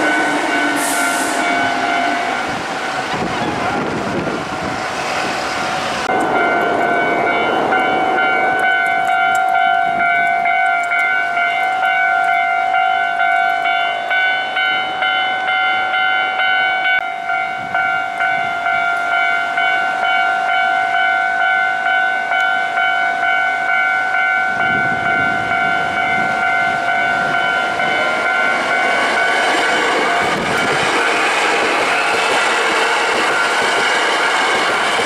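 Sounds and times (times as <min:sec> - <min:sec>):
level-crossing alarm ringing: 0:00.0 - 0:03.8, 0:06.1 - 0:35.0
train rumbling past: 0:00.0 - 0:35.0.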